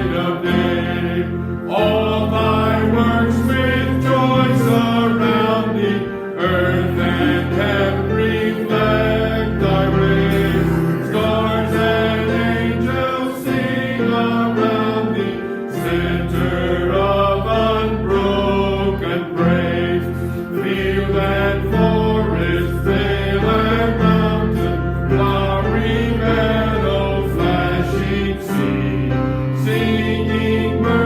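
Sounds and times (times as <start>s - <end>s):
congregation singing a hymn: 0.0s - 31.0s
instrumental accompaniment with bass notes: 0.0s - 31.0s.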